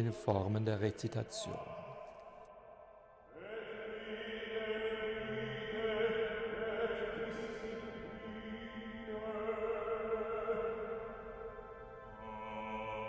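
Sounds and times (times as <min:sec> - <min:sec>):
vocal ensemble chanting: 0:00.0 - 0:13.0.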